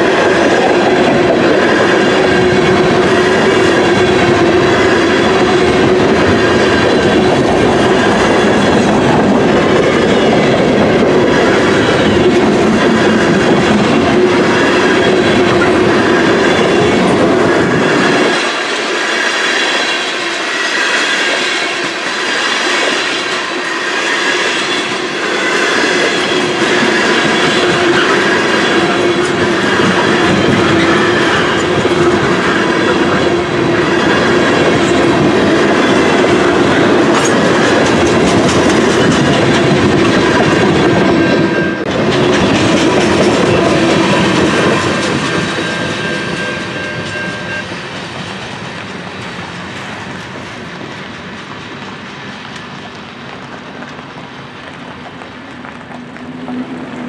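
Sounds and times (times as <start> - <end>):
freight train wheels clicking over joints: 0.0 - 57.0
train wheels squealing: 0.0 - 57.0.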